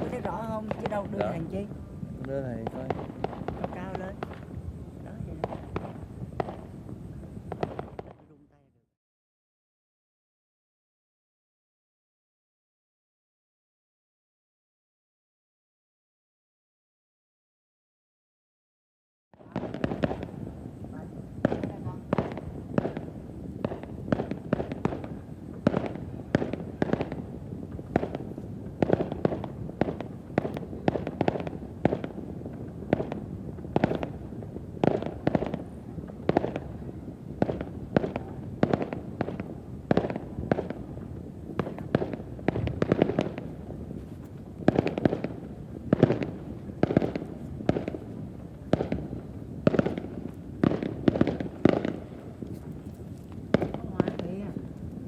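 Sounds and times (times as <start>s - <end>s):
fireworks bursting: 0.0s - 8.8s, 19.4s - 55.0s.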